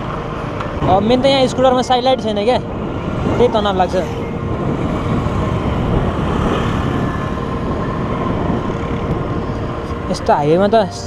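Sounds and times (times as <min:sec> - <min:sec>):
faint steady whine: 0:00.0 - 0:11.0
motor scooter riding at speed: 0:00.0 - 0:11.0.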